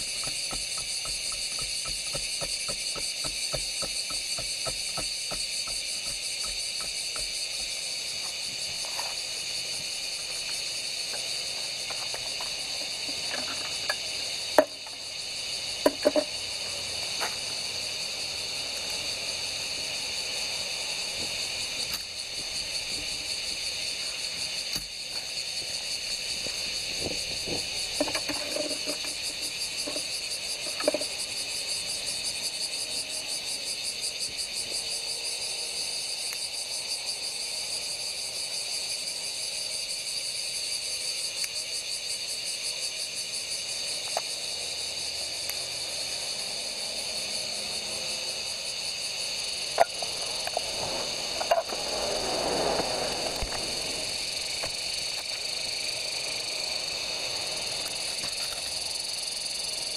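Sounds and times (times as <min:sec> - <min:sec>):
cicadas chirring: 0:00.0 - 0:59.9.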